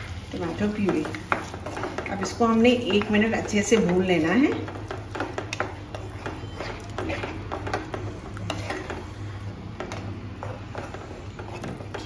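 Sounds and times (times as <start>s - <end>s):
spatula scraping pan: 0.0s - 12.0s.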